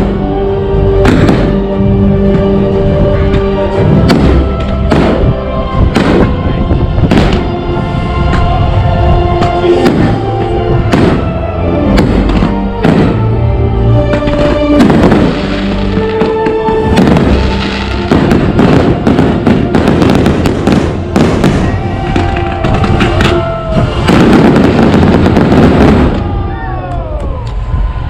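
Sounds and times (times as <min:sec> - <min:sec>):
loud show music: 0:00.0 - 0:27.3
fireworks bursting and crackling: 0:01.0 - 0:07.6, 0:09.3 - 0:13.4, 0:14.0 - 0:27.6.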